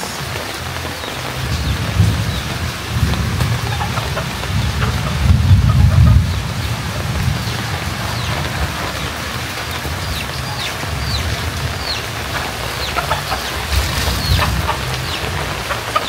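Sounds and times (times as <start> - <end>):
birds peeping: 0.0 - 16.0
steady low rumble: 1.4 - 16.0.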